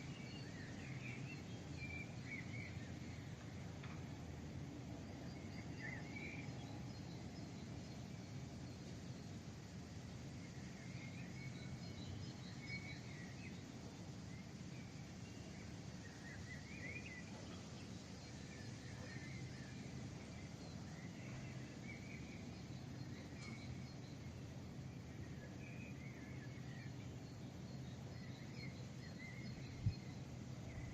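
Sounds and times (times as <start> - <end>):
low city hum: 0.0 - 30.9.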